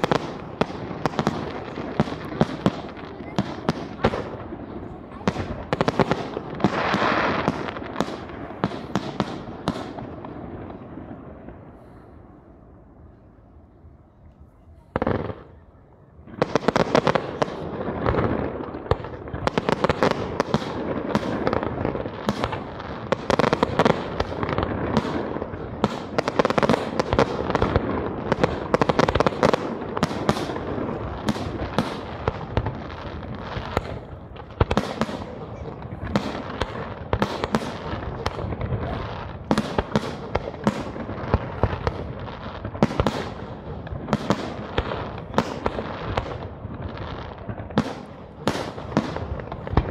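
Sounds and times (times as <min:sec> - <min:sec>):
fireworks crackling: 0:00.0 - 0:13.6, 0:14.2 - 0:49.9
fireworks bangs: 0:00.0 - 0:49.9.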